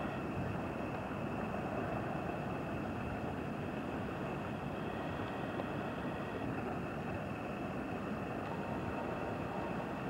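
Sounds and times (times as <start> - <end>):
ship engine drone: 0.0 - 10.0.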